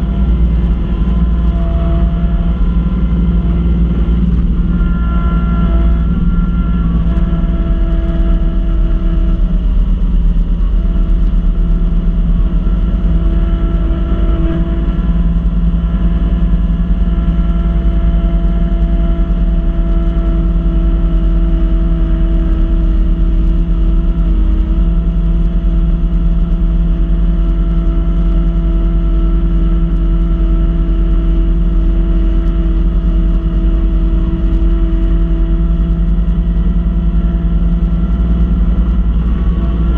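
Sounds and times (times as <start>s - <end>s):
snow blower hum: 0.0s - 39.9s
tractor diesel engine running: 0.0s - 39.9s.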